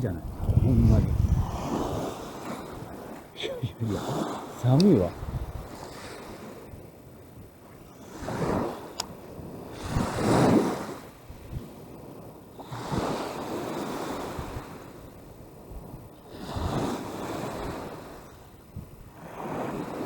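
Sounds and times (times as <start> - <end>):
strong gusting wind: 0.0 - 20.0
waves washing on shore: 0.0 - 20.0.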